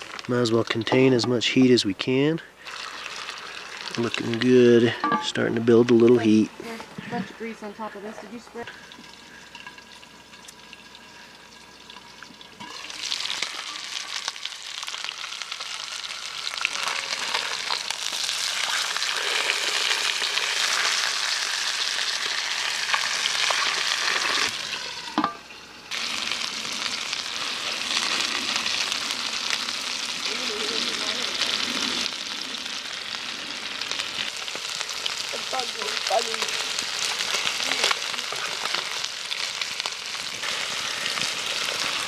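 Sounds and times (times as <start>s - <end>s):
fish sizzling in a pan: 0.0s - 42.0s.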